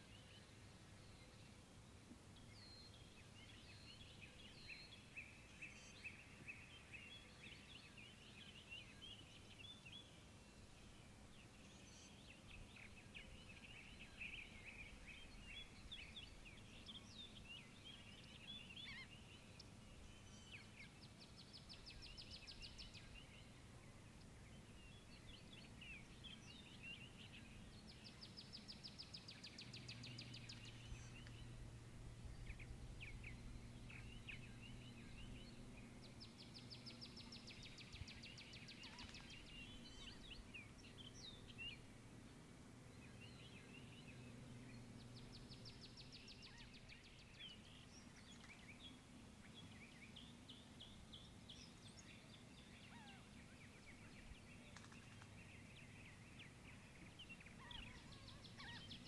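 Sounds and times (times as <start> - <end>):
faint low hum: 0.0 - 59.0
small birds chirping: 0.0 - 59.0.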